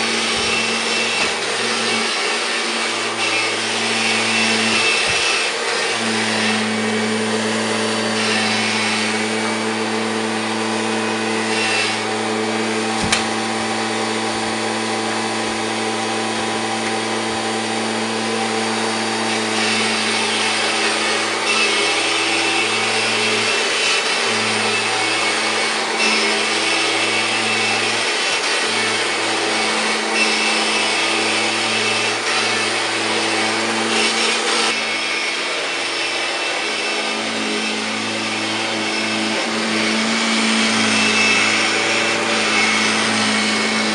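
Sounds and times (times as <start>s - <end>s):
vacuum cleaner running on carpet: 0.0s - 43.9s.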